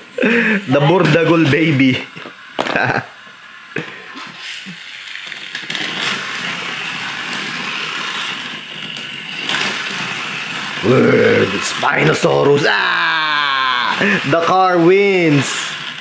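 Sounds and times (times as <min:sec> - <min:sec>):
toy car electric motor: 0:00.0 - 0:16.0.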